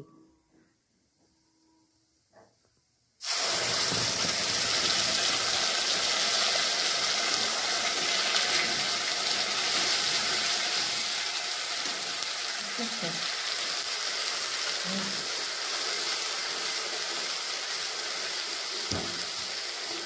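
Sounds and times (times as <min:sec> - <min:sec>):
paste sizzling in hot oil: 0:03.2 - 0:20.0.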